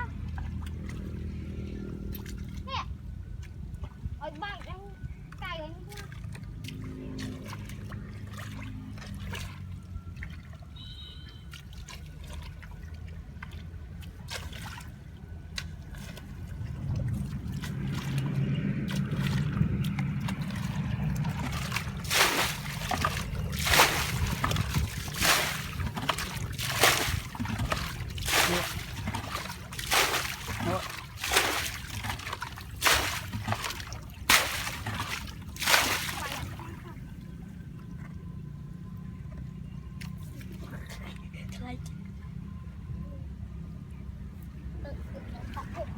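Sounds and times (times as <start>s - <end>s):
water splashes: 0.0s - 38.6s
water sloshing by hand: 0.0s - 41.3s.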